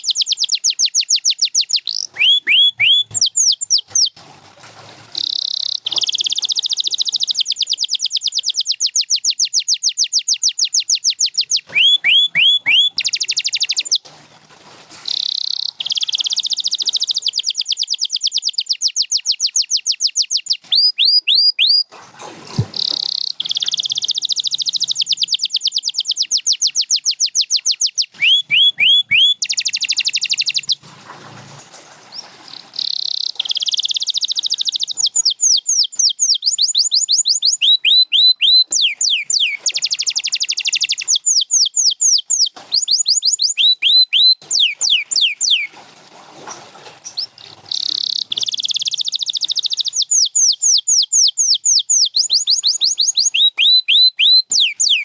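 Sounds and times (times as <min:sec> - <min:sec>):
canary singing: 0:00.0 - 0:04.2, 0:05.2 - 0:14.0, 0:15.1 - 0:21.9, 0:22.6 - 0:30.8, 0:32.1 - 0:45.7, 0:47.1 - 0:55.0.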